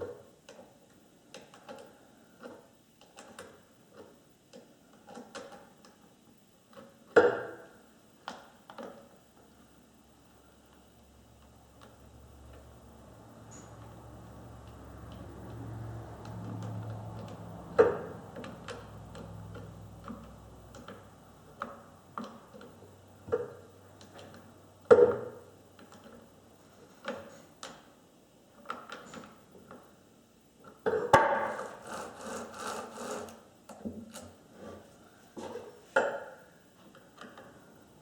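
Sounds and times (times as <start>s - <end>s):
low steady hum: 5.7s - 38.0s.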